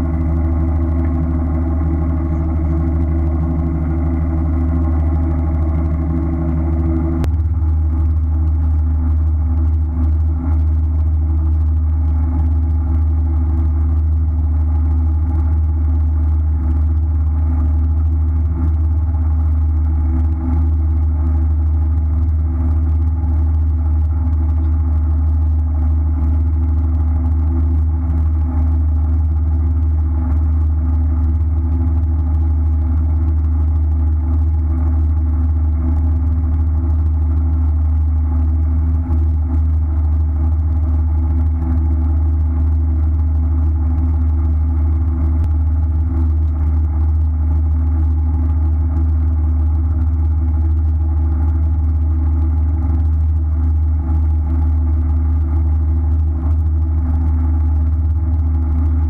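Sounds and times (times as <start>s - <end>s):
boat engine idling: 0.0s - 49.2s.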